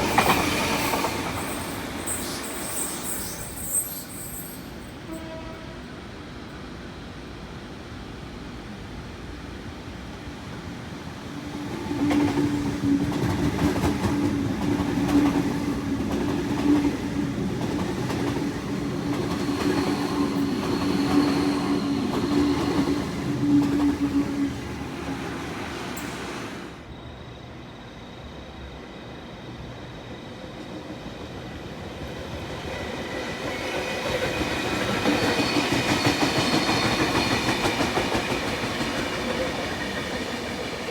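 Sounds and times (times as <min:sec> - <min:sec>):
train passing with low hum: 0:00.0 - 0:40.9.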